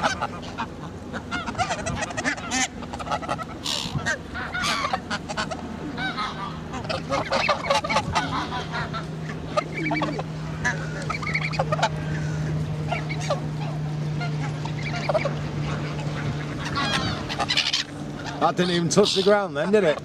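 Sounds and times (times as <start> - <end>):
geese honking: 0.0 - 20.0
steady low hum: 0.0 - 20.0.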